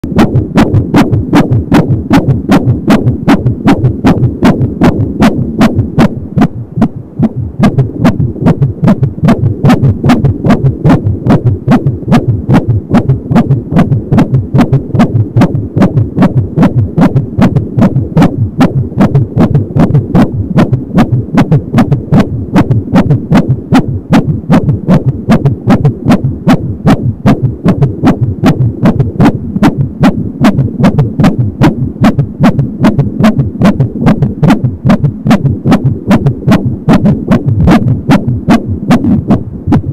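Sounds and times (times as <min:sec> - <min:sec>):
fetal heartbeat through doppler speaker: 0:00.0 - 0:39.9.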